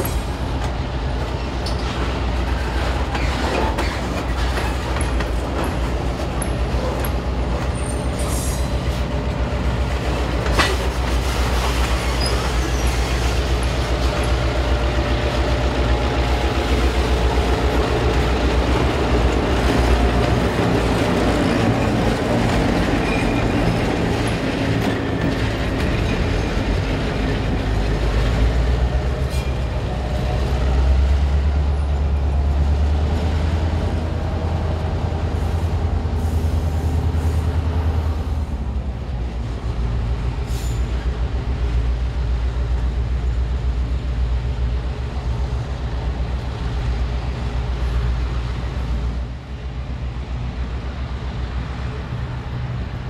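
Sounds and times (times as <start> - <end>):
diesel locomotive engine: 0.0 - 53.0
freight cars rolling on rails: 0.0 - 53.0.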